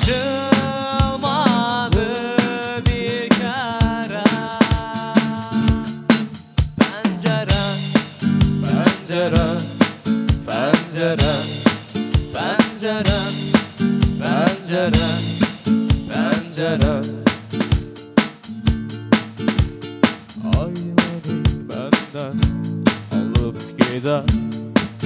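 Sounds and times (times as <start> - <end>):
beatboxed drum beat: 0.0 - 25.0
strummed acoustic guitar: 0.0 - 25.0.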